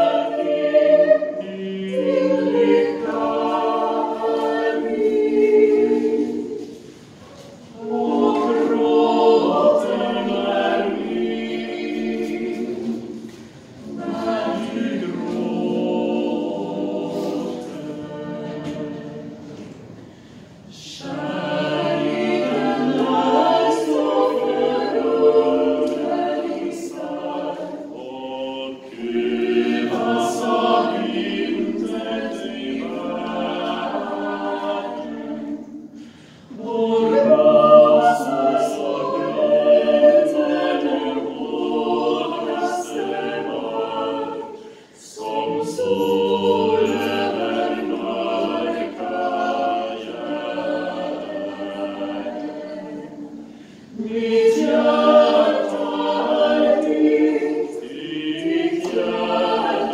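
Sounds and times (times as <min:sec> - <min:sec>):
vocal group singing in harmony: 0:00.0 - 0:59.9.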